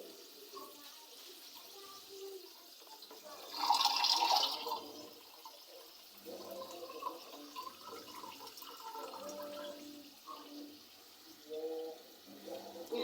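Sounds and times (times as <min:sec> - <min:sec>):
water bubbling in a pot: 0:02.4 - 0:13.0.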